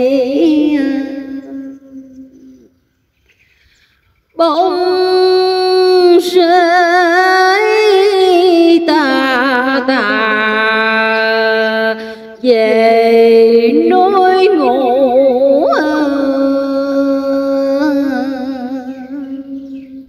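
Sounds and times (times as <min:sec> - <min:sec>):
woman chanting verse: 0:00.0 - 0:02.7, 0:04.4 - 0:20.0.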